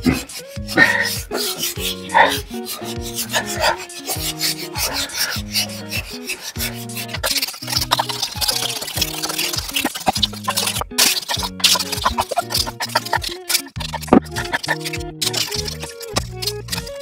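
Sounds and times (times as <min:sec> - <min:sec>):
background music: 0:00.0 - 0:17.0
wet sandpaper rubbing strokes: 0:00.0 - 0:17.0.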